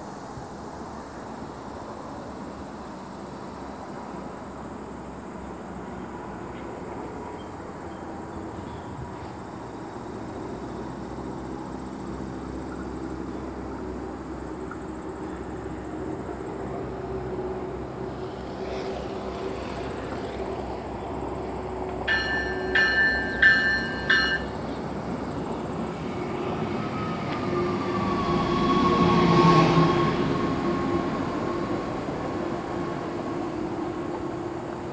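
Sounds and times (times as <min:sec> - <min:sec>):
diesel train engine and wheels: 0:00.0 - 0:34.9
train whine: 0:00.0 - 0:34.9.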